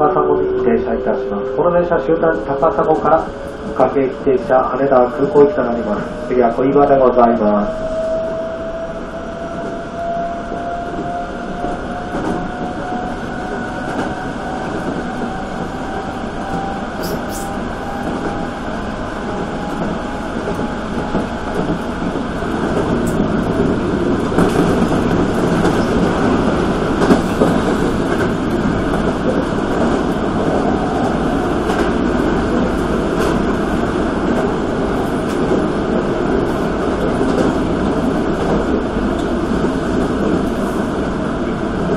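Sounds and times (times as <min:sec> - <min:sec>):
train running noise: 0:00.0 - 0:41.9.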